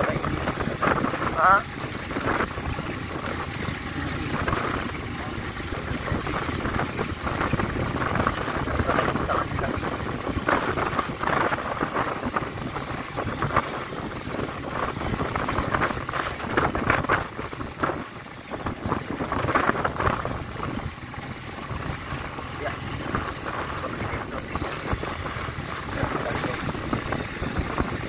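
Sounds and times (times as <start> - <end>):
motorcycle engine running: 0.0 - 28.0
wind buffeting microphone: 0.0 - 28.0.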